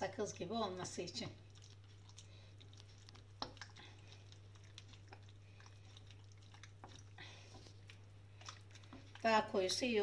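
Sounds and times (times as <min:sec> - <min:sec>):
ladle squishing cooked wheat: 0:00.0 - 0:10.0.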